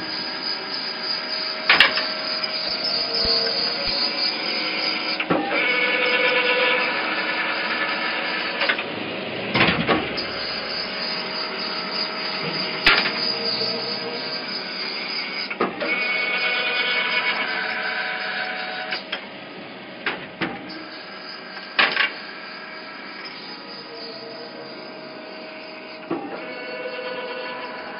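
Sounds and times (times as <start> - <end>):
tapping machine whine: 0.0 - 27.9.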